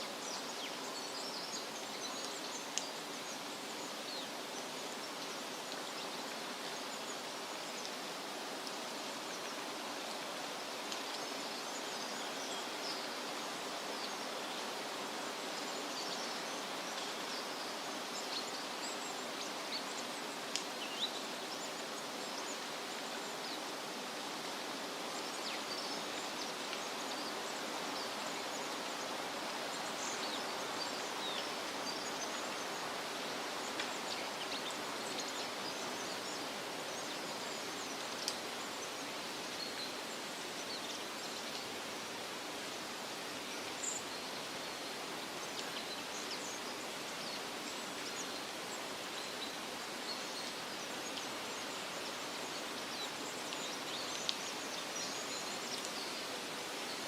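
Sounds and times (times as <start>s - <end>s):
wind rustling through leafy trees: 0.0s - 57.0s.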